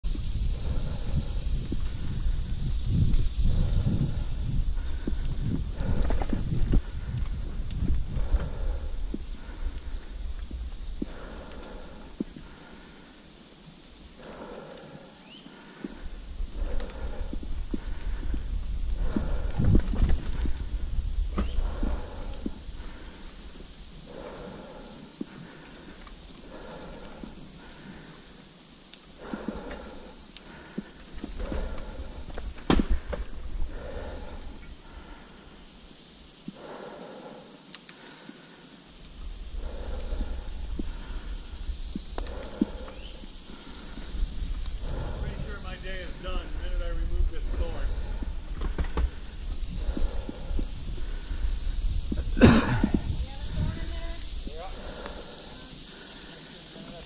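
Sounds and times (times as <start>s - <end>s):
wind rumbling on microphone: 0.0s - 13.2s, 13.9s - 28.3s, 29.1s - 36.8s, 39.0s - 56.3s
bike tyres rolling on dirt: 0.0s - 35.6s, 38.0s - 57.0s.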